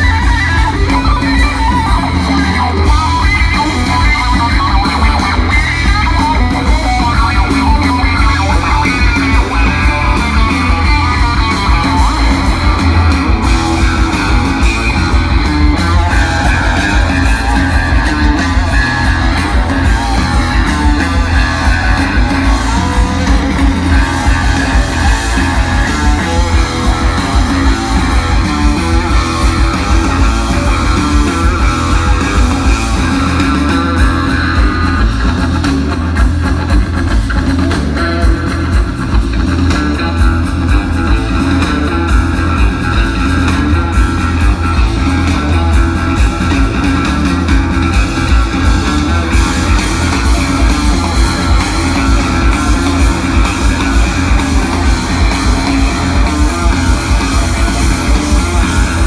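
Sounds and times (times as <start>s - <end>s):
drum kit playing: 0.0s - 59.0s
electric guitar: 0.0s - 59.0s.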